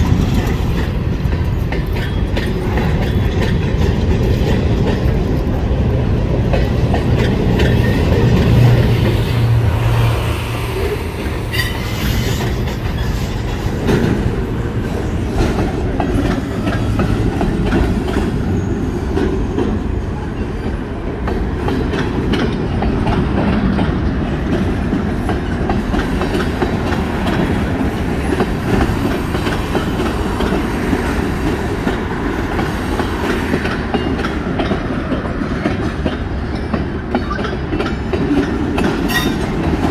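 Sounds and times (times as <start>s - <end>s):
wheels clicking over rail joints: 0.0s - 9.5s, 10.8s - 39.9s
freight train rumbling past: 0.0s - 39.9s.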